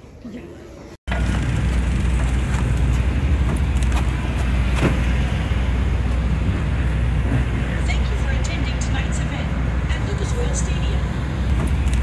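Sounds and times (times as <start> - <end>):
steady low rumble: 1.1 - 12.0.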